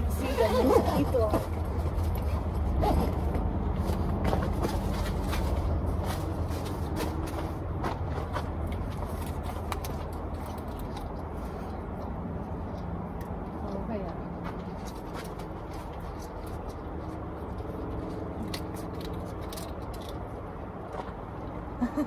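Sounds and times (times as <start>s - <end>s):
low steady engine hum: 0.0s - 22.0s.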